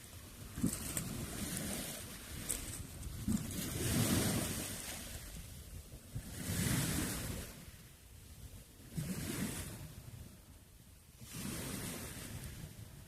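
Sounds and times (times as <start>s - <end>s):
sea waves washing in: 0.0s - 13.0s.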